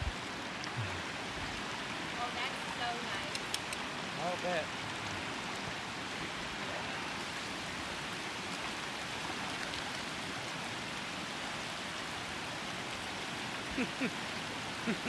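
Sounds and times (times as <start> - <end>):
water rushing across road: 0.0 - 15.0.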